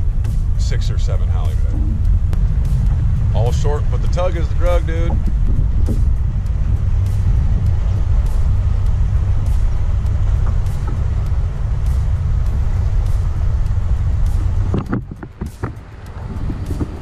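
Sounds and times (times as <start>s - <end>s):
loud low rumble: 0.0s - 17.0s
faint light ticks: 2.0s - 3.1s, 4.0s - 17.0s.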